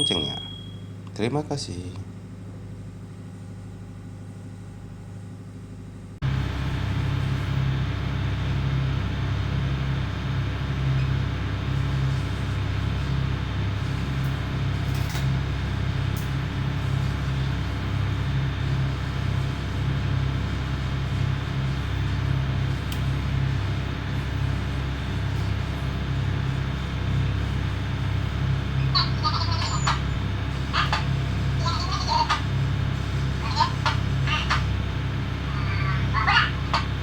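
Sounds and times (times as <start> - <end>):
boat diesel engine droning: 6.2 - 37.0.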